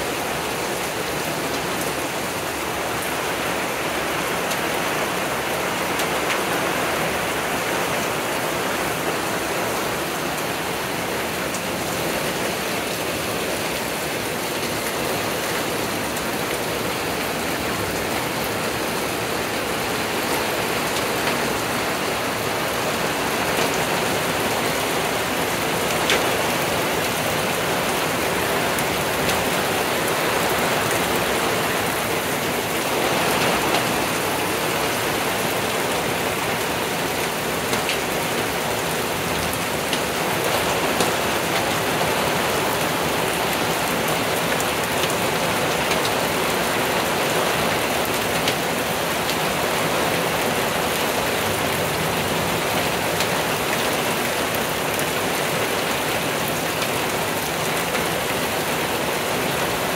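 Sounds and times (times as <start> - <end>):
rain on wooden deck and leaves: 0.0 - 59.9.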